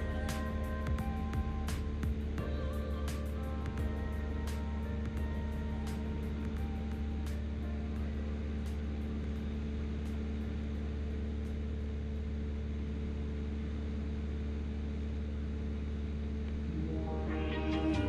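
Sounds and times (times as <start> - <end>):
plane engine droning in cabin: 0.0 - 18.0.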